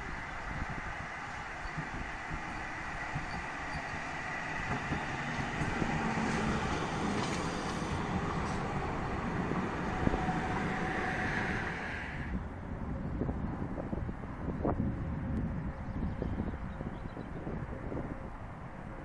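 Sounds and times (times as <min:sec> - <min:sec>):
tram rolling on tracks: 0:00.0 - 0:19.0.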